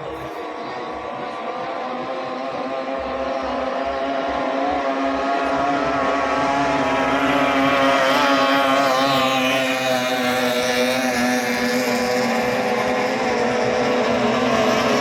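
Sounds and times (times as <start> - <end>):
speedboat outboard motor: 0.0 - 15.0.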